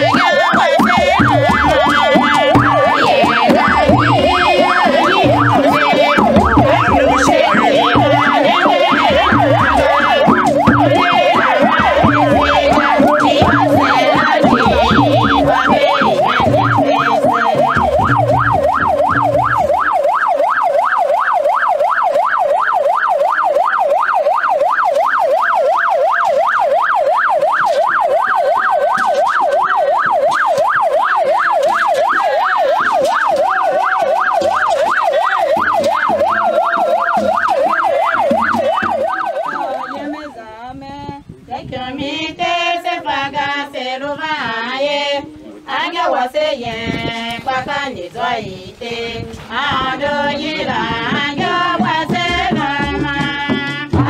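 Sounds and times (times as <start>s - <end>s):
vehicle siren yelping: 0.0s - 40.4s, 48.8s - 54.0s.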